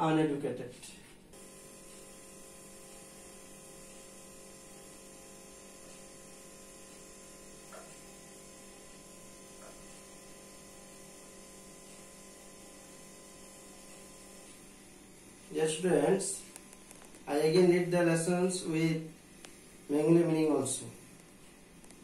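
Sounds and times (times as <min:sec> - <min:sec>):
electrical hum with hiss: 0:00.0 - 0:22.0.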